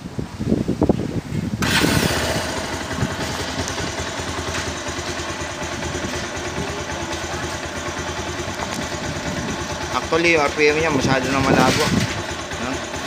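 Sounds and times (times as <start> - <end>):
motorcycle engine starting and idling: 1.5 - 13.0.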